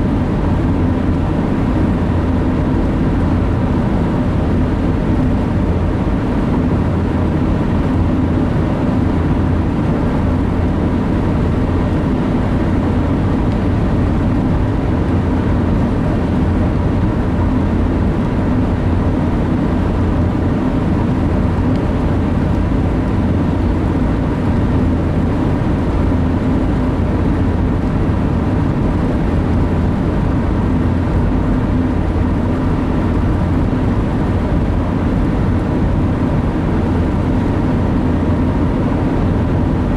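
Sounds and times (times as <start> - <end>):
car cabin road and engine drone: 0.0 - 39.9.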